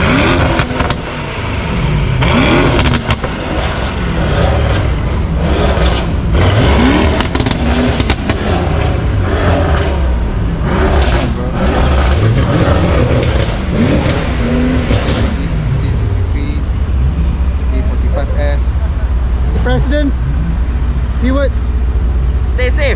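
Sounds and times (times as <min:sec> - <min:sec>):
car engines revving: 0:00.0 - 0:22.9.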